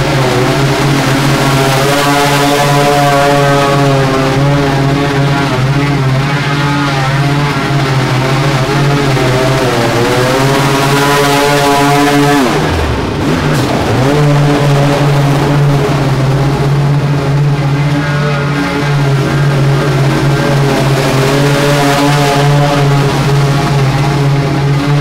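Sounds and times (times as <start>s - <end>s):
small gasoline engine running: 0.0s - 25.0s.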